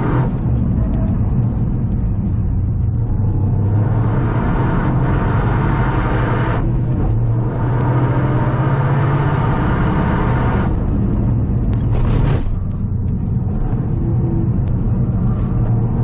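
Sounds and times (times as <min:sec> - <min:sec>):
car engine pulling hard: 0:00.0 - 0:16.0.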